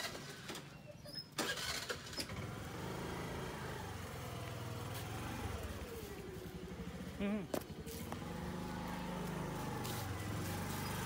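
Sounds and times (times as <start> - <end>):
vehicle engine revving: 1.5 - 11.0.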